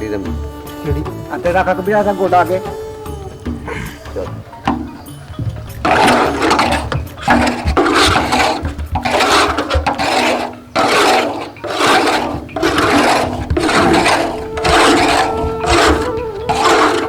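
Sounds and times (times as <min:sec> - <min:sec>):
iron scraper rasping jaggery: 0:00.0 - 0:17.0.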